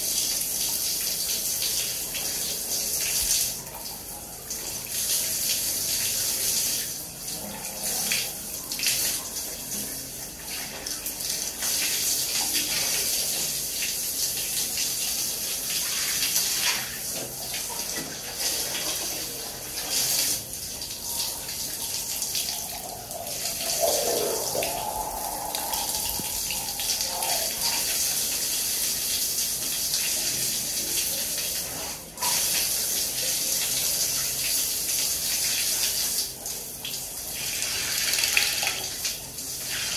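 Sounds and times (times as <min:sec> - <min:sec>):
shower water spraying on tiles: 0:00.0 - 0:39.9.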